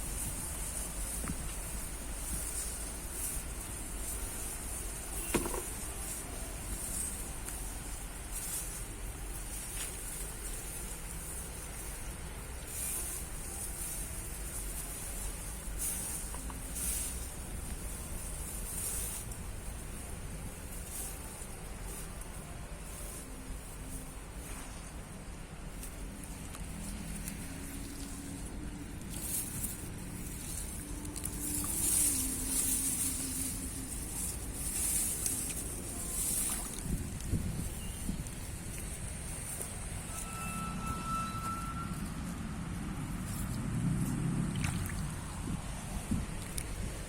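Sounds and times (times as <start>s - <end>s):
steady low rumble: 0.0s - 41.0s, 41.7s - 47.0s.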